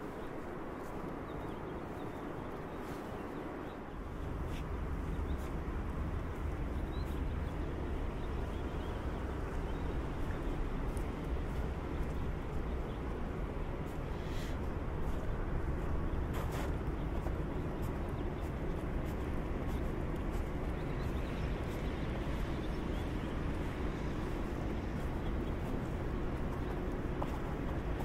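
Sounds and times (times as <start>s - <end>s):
distant city noise: 0.0s - 28.0s
footsteps on wet pavement: 4.0s - 28.0s.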